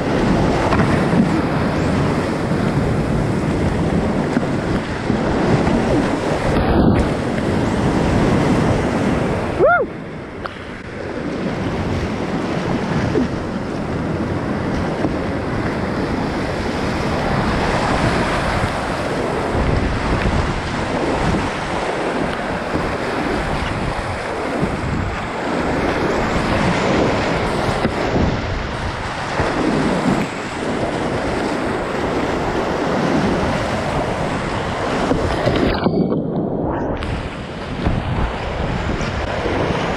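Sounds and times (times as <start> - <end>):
whitewater rushing: 0.0 - 36.0
wind buffeting microphone: 0.0 - 39.9.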